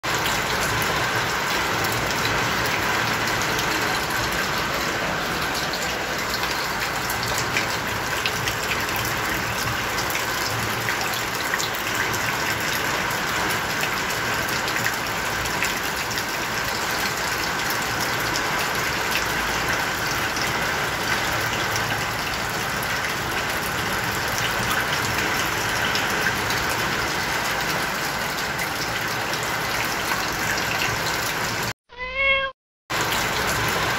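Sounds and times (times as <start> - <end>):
water rushing: 0.0 - 31.7, 32.9 - 33.9.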